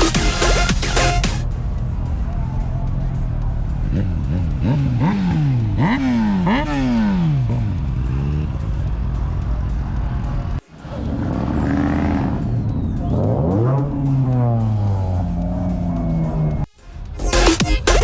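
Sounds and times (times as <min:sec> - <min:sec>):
vehicle engine revving: 0:00.0 - 0:16.7.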